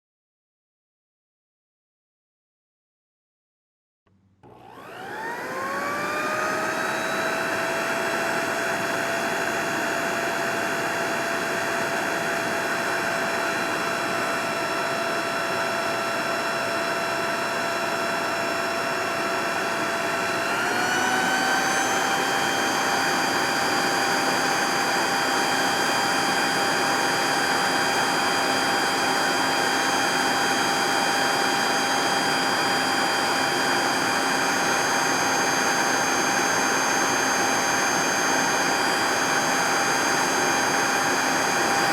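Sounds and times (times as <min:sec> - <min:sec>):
leaf blower whining: 0:04.4 - 0:41.9.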